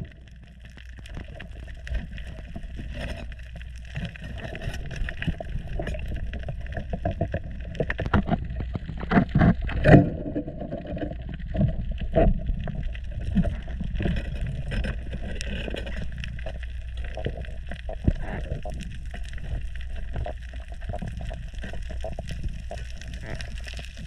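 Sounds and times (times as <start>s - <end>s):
small clicks and crackles: 0.0s - 24.0s
underwater low rumble: 0.0s - 24.0s.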